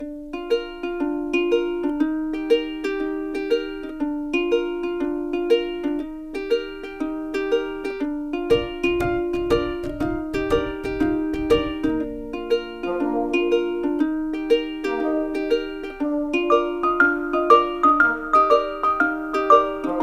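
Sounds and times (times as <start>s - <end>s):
plucked ukulele-like melody: 0.0s - 20.0s.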